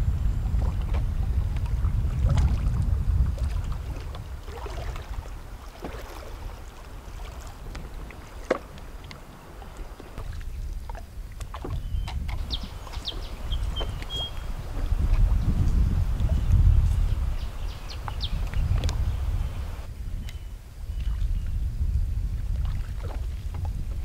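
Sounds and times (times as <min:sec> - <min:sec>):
water lapping around raft: 0:00.0 - 0:20.0, 0:20.6 - 0:24.0
wind rumbling on microphone: 0:00.0 - 0:24.0.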